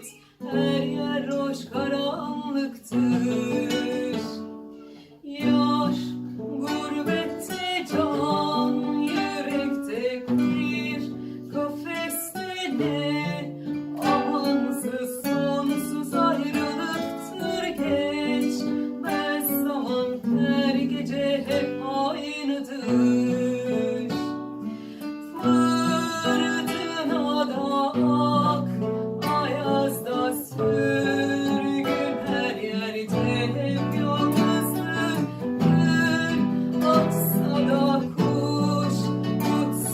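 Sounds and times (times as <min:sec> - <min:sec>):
acoustic guitars playing: 0:00.0 - 0:39.9.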